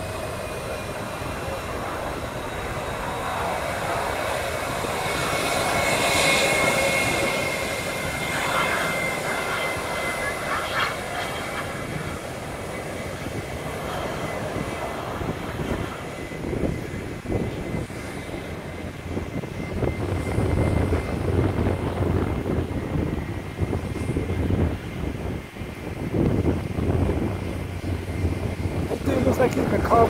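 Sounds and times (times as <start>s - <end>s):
jet engines rushing and whining: 0.0s - 30.0s.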